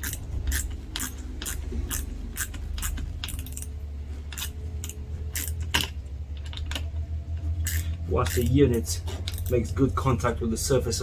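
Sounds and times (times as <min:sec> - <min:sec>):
wrench clicking: 0:00.0 - 0:09.6.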